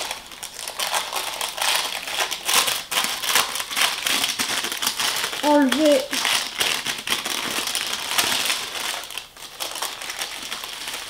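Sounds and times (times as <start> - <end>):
baking paper crinkling: 0.0 - 11.0.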